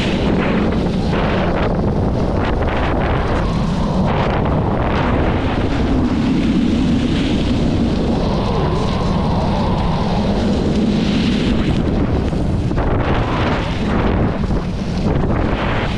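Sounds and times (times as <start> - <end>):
skis carving and scraping on snow: 0.0 - 15.9
wind buffeting microphone: 0.0 - 15.9.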